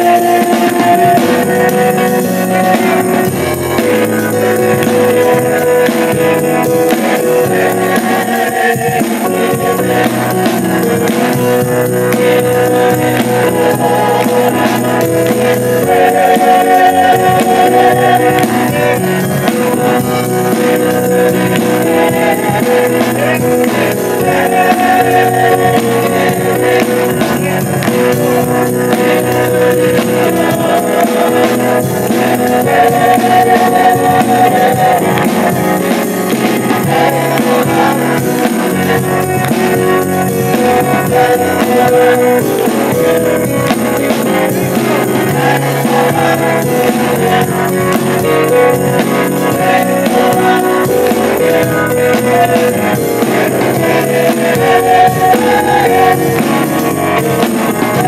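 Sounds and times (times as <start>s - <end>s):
congregation singing gospel: 0.0s - 58.0s
gospel instruments playing: 0.0s - 58.0s.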